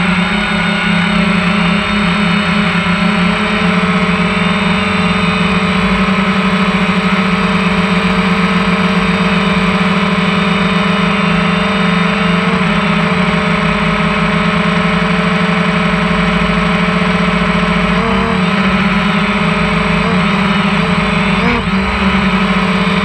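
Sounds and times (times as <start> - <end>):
quadcopter motors and propellers: 0.0 - 23.0.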